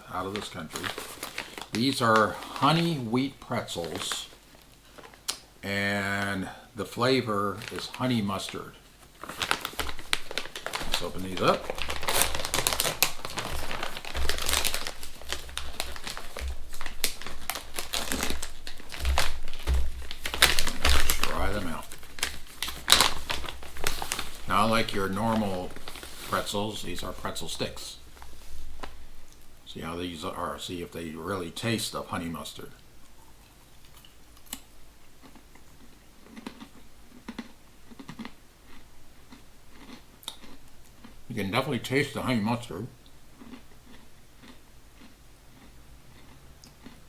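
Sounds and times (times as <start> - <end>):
plastic snack bag crinkling: 0.1 - 30.7, 35.2 - 42.8, 43.4 - 47.0.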